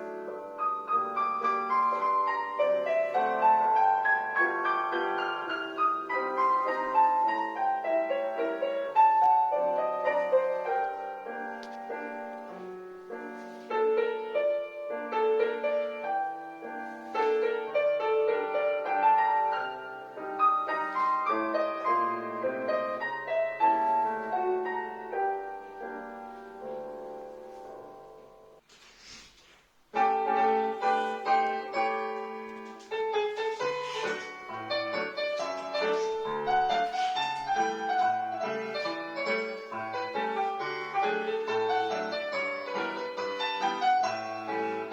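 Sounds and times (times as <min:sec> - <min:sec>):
solo piano piece: 0:00.0 - 0:28.7, 0:29.9 - 0:44.9.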